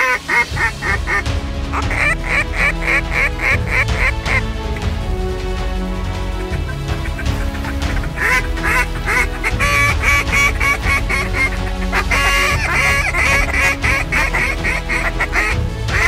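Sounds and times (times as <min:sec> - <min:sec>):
duck quacking: 0:00.0 - 0:04.5, 0:06.4 - 0:16.0
background music: 0:00.0 - 0:16.0.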